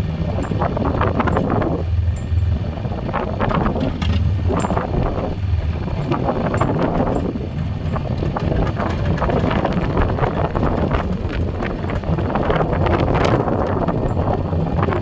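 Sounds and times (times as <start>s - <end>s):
four-wheeler engine running: 0.0s - 15.0s
plow pushing through snow: 0.0s - 15.0s
wind buffeting microphone: 0.0s - 15.0s.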